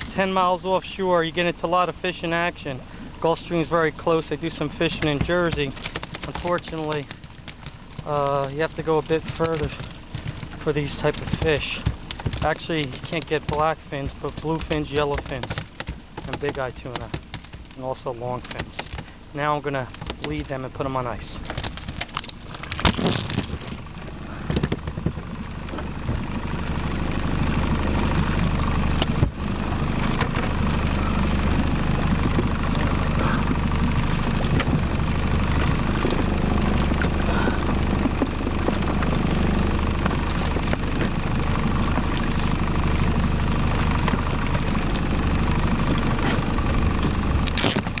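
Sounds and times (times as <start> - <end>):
outboard motor humming: 0.0 - 48.0.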